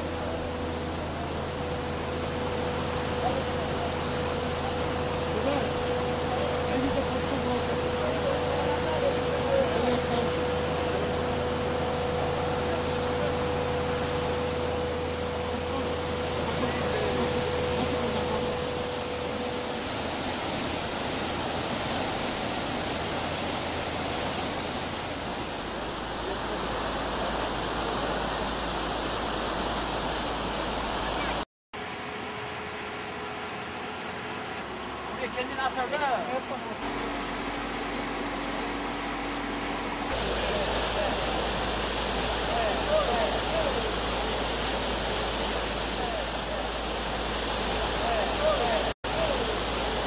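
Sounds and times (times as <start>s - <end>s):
faint steady hum: 0.0s - 50.0s
river rushing: 0.0s - 50.0s.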